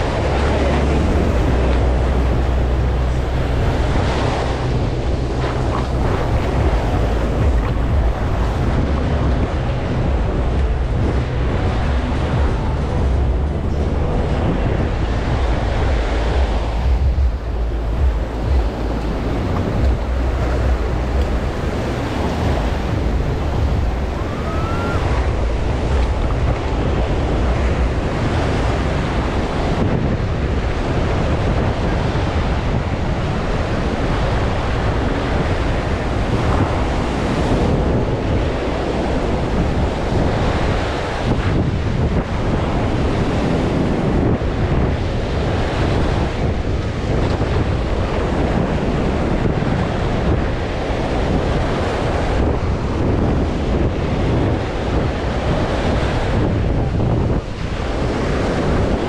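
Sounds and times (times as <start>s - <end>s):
ocean surf on beach: 0.0s - 59.0s
wind buffeting microphone: 0.0s - 59.0s.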